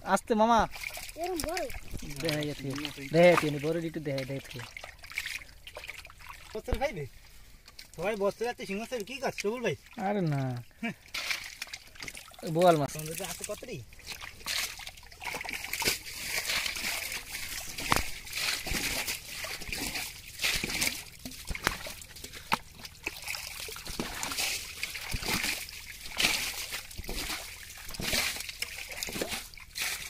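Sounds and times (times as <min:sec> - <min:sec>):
water trickling: 0:00.0 - 0:30.0
fish splashing in water: 0:00.7 - 0:10.0, 0:10.9 - 0:30.0.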